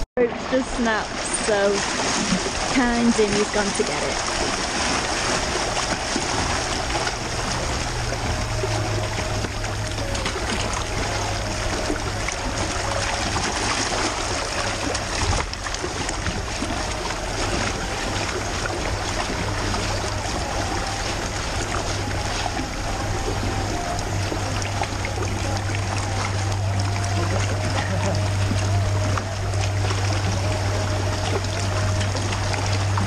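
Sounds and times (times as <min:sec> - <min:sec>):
low hum: 0:00.0 - 0:33.0
waves lapping on rocky shore: 0:00.2 - 0:33.0.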